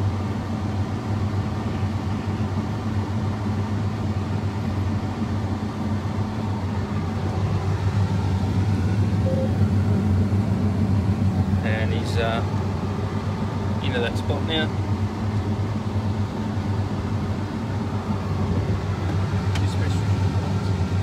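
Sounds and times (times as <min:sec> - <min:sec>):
combine harvester machinery drone: 0:00.0 - 0:21.0.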